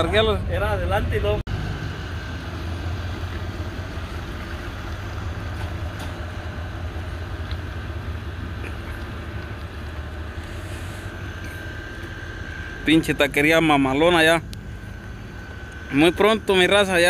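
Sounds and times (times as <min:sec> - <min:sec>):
pickup truck engine rumbling: 0:00.0 - 0:17.0.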